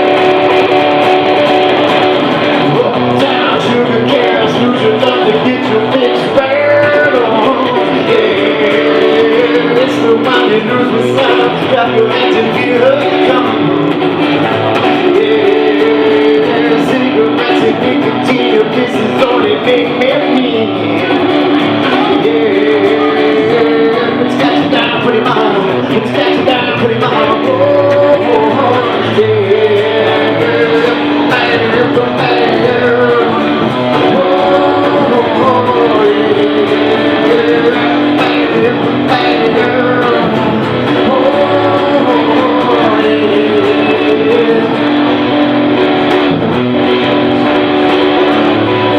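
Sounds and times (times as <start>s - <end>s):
electric guitar lead line: 0.0s - 48.9s
strummed guitar chords: 0.0s - 48.9s.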